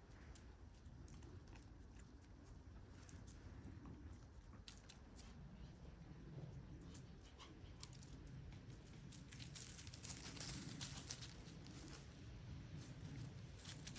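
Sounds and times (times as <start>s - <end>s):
faint ticks and rustling crackles: 0.0s - 13.9s.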